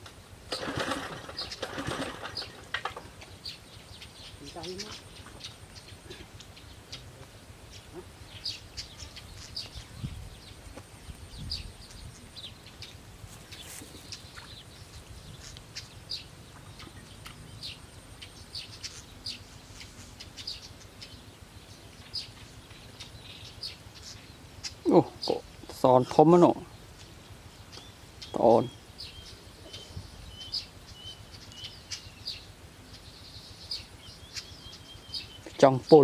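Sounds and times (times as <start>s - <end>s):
low steady rumble: 0.0s - 35.5s
birds chirping: 0.0s - 36.0s.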